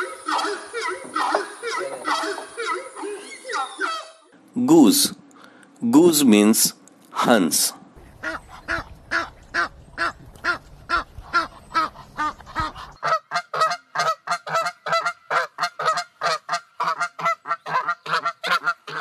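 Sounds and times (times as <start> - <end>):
geese honking: 0.0 - 4.3, 8.0 - 19.0.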